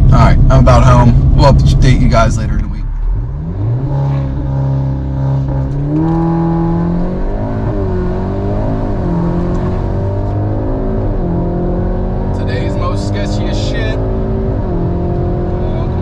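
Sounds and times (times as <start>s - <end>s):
car engine accelerating hard: 3.0s - 16.0s.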